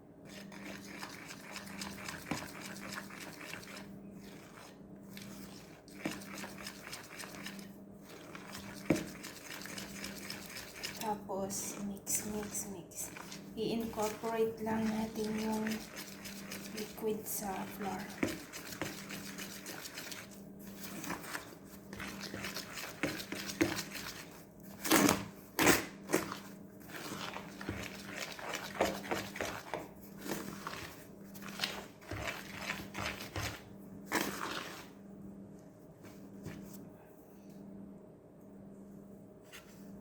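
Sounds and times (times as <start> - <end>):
faint steady hum: 0.0 - 40.0
utensil scraping mixing bowl: 0.3 - 35.0.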